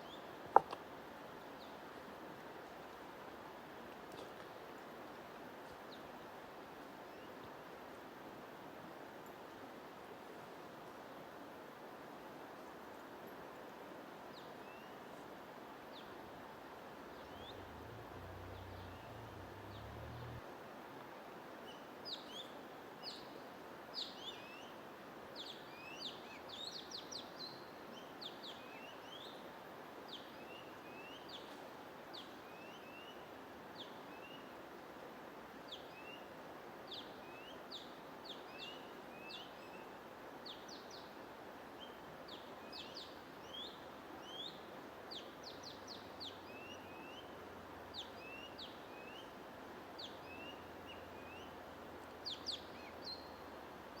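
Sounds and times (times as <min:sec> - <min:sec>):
steady soft hiss: 0:00.0 - 0:54.0.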